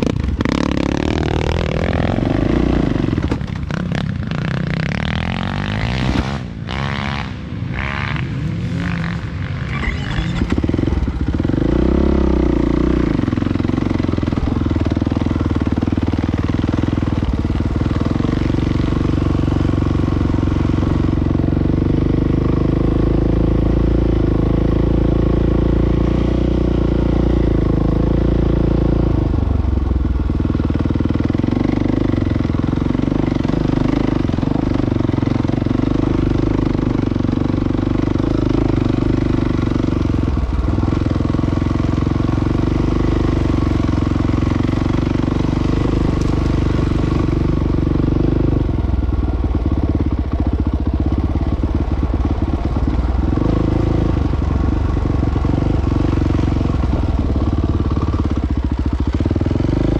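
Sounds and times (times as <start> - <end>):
dirt bike engine revving: 0.0 - 29.7, 30.7 - 59.9.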